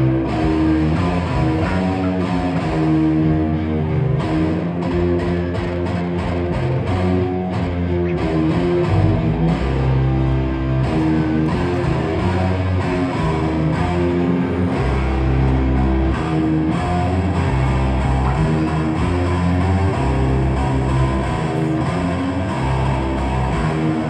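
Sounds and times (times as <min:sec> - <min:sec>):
live band playing rock music: 0:00.0 - 0:24.0.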